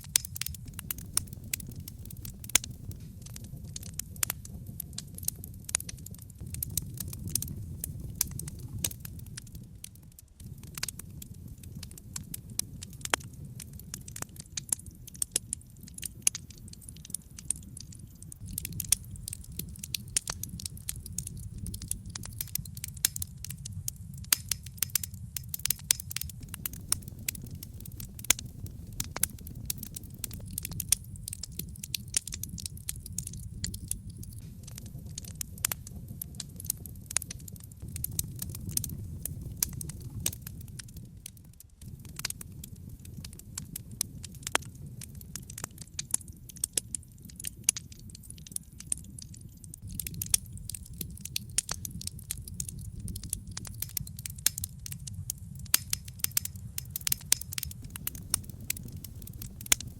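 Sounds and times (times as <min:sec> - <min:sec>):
logs burning in a fireplace: 0:00.0 - 0:59.9.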